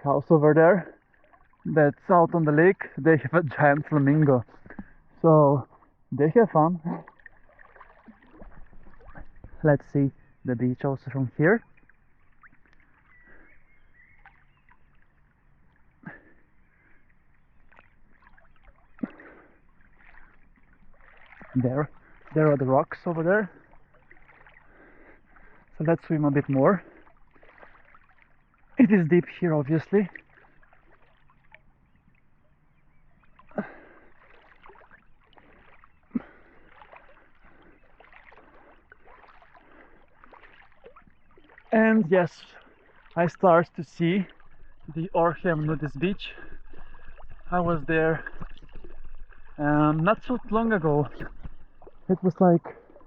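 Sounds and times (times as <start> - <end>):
water splashing from swimming: 0.0 - 53.0.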